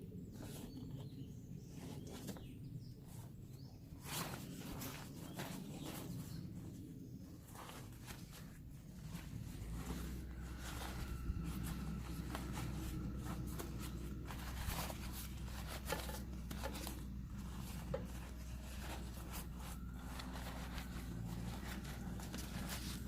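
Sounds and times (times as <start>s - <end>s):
steady low hum: 0.0s - 23.0s
clicks and rustles of handling: 0.3s - 23.0s.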